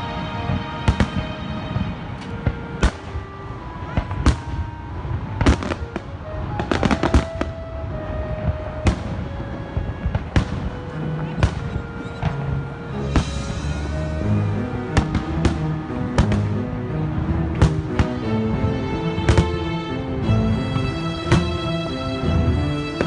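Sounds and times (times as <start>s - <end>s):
fireworks exploding: 0.0s - 23.0s
music playing: 0.0s - 23.0s.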